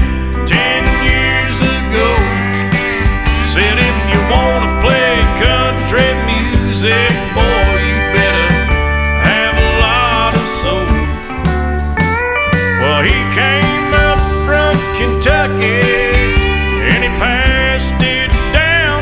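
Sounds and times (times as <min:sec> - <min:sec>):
country music with steel guitar: 0:00.0 - 0:19.0.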